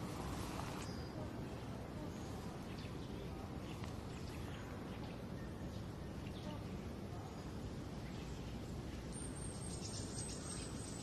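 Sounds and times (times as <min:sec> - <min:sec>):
low rumble and hiss: 0:00.0 - 0:11.0
faint bird chirps: 0:00.7 - 0:11.0.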